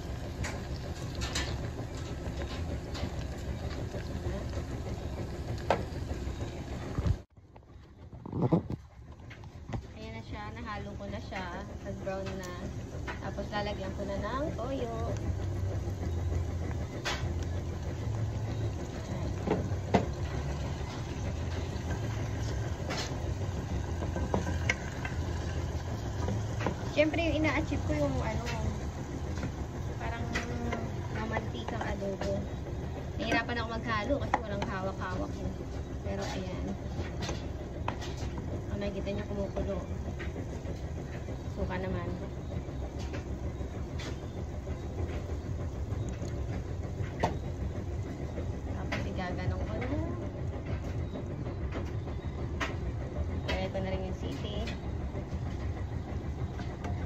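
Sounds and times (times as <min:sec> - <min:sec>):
pot boiling with low rumble: 0:00.0 - 0:57.0
steady low hum: 0:00.0 - 0:57.0.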